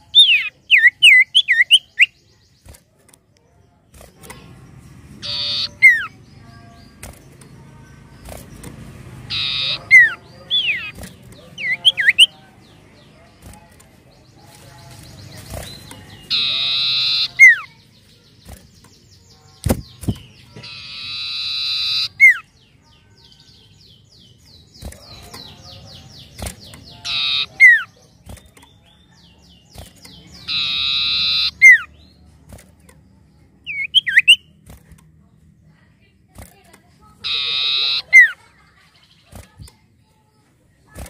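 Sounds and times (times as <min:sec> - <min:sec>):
bird singing buzzy trills: 0:00.0 - 0:41.0.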